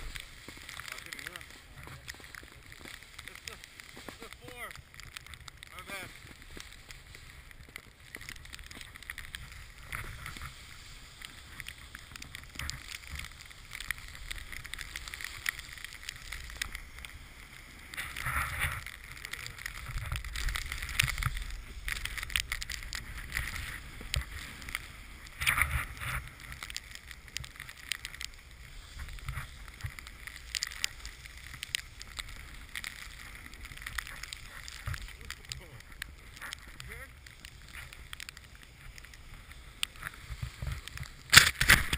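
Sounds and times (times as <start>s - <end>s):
snowboard scraping over snow: 0.0s - 41.9s
wind rumbling on microphone: 0.0s - 41.9s.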